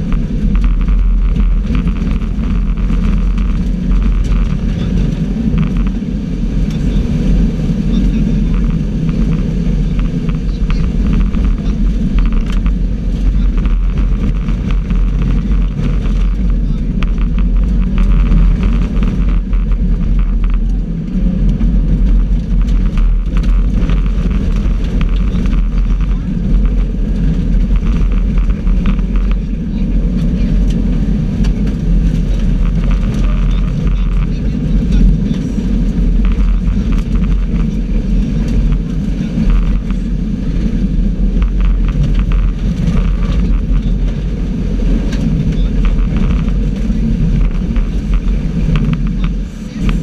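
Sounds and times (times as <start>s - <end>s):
rally car engine running hard: 0.0s - 50.0s.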